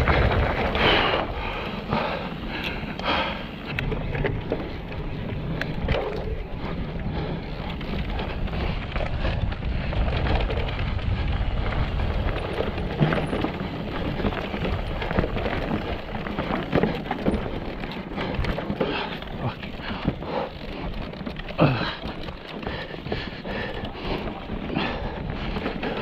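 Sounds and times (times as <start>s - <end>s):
bike rattling: 0.0s - 26.0s
bike tyres rolling over rock: 0.0s - 26.0s
wind buffeting microphone: 0.0s - 26.0s.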